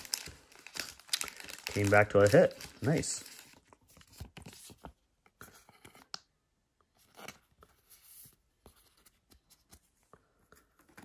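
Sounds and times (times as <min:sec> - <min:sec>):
card and plastic sleeve rustling: 0:00.0 - 0:06.3, 0:06.9 - 0:11.0.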